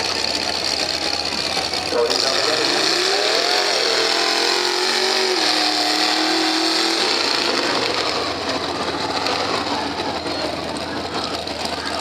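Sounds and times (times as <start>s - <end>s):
truck engine running hard: 0.0s - 12.0s.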